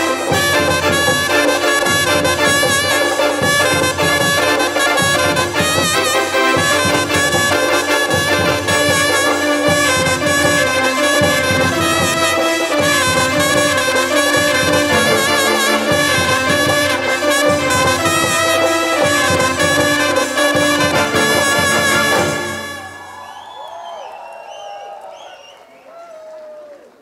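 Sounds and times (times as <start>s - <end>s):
loud music with brass melody: 0.0s - 23.2s.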